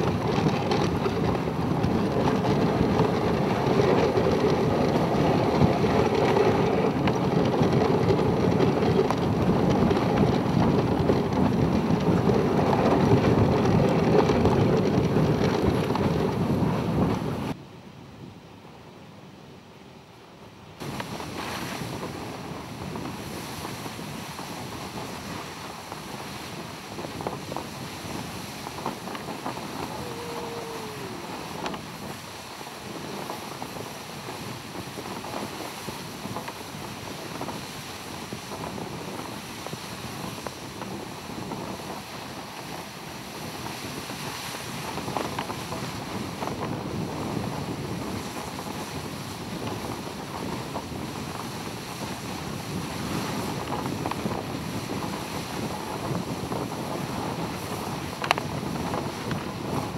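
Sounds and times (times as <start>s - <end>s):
sled runners sliding over snow: 0.0s - 17.6s, 20.8s - 59.9s
wind buffeting microphone: 0.0s - 17.6s, 20.8s - 59.9s.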